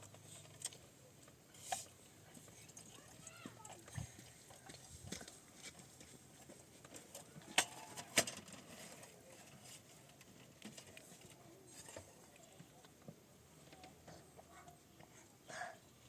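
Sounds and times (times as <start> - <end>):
faint scattered small sounds: 0.0 - 16.0.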